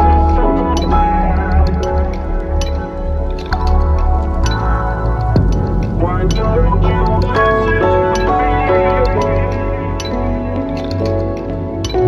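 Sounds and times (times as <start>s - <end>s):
background music: 0.0s - 12.0s
light percussive ticks: 0.3s - 12.0s.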